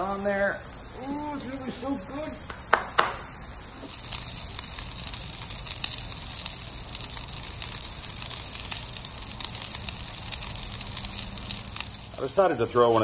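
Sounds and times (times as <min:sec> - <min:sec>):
steaks sizzling on a griddle: 0:00.0 - 0:13.0.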